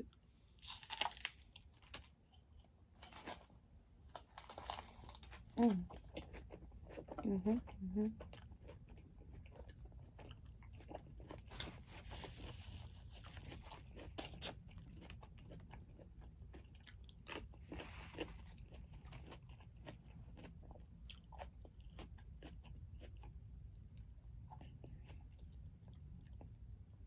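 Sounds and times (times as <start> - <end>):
chewing and crunching food: 0.5 - 26.6.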